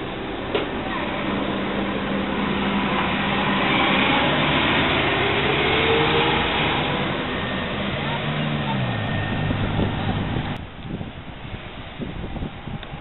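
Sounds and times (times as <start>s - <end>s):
bus diesel engine pulling away: 0.0s - 10.6s
rising engine whine: 0.0s - 13.0s.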